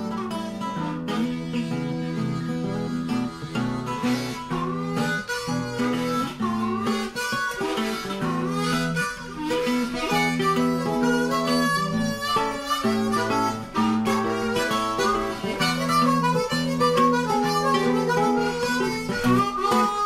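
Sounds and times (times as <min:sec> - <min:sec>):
acoustic guitar: 0:00.0 - 0:20.0
harmonica: 0:00.0 - 0:20.0.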